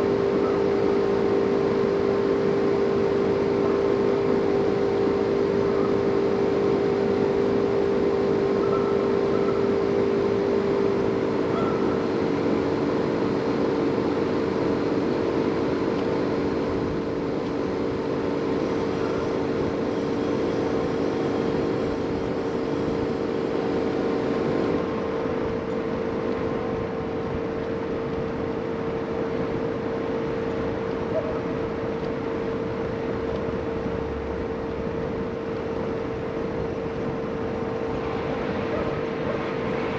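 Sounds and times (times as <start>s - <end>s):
lower hum: 0.0s - 39.9s
motor-driven equipment droning: 0.0s - 39.9s.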